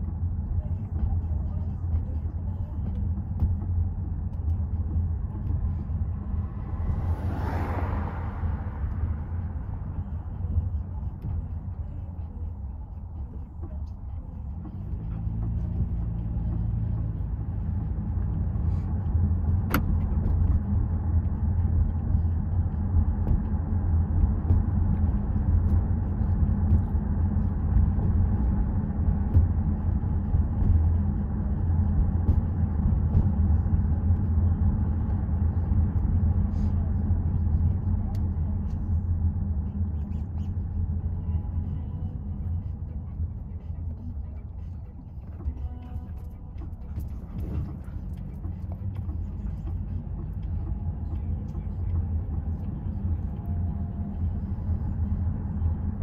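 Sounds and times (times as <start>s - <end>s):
car road rumble from inside: 0.0s - 56.0s.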